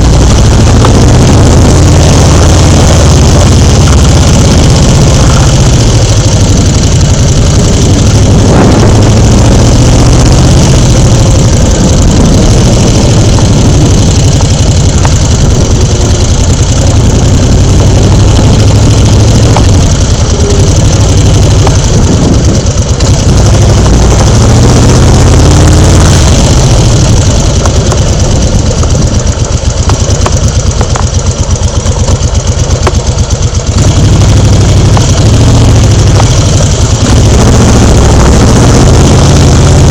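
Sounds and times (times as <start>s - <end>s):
engine running with low rumble: 0.0s - 39.9s.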